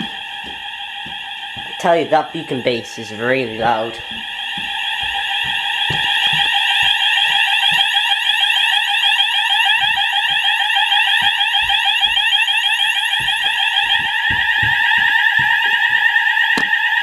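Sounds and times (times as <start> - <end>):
fire alarm sweeping tone: 0.0 - 17.0.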